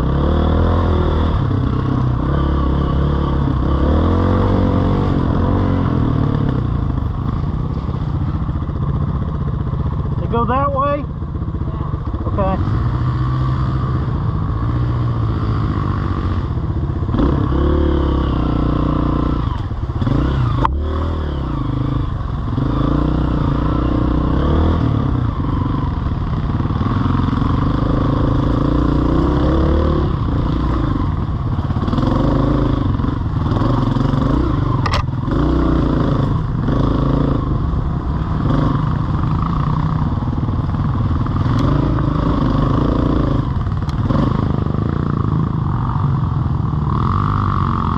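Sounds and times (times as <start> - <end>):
off-road vehicle engine revving: 0.0 - 7.0, 12.0 - 45.9.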